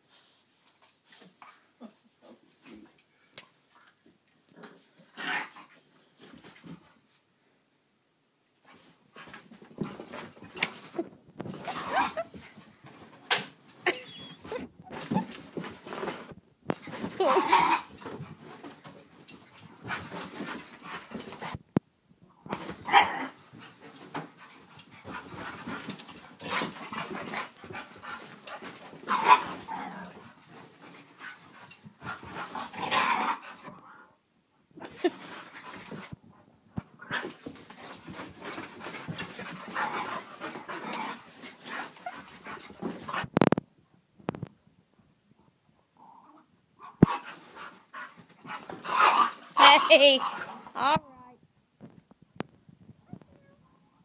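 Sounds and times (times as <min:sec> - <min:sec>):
dogs playing noises: 0:00.0 - 0:07.3, 0:08.6 - 0:43.6, 0:45.4 - 0:51.0.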